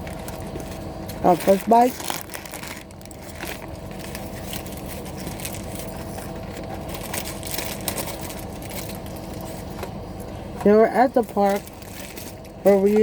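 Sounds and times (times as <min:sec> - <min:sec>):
paper wrapper rustling: 0:00.0 - 0:09.6, 0:11.3 - 0:13.0.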